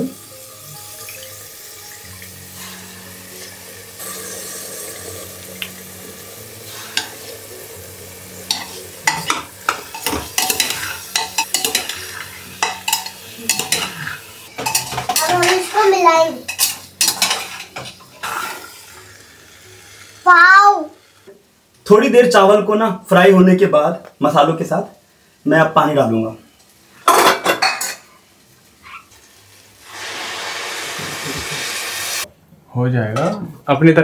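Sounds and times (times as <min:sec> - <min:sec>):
soft sizzle: 0:00.0 - 0:34.0.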